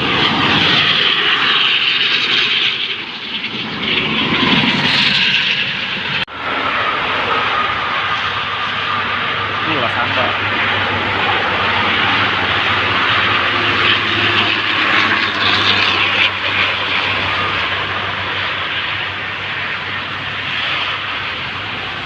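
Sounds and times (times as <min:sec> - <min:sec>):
bus engine roaring: 0:00.0 - 0:22.0.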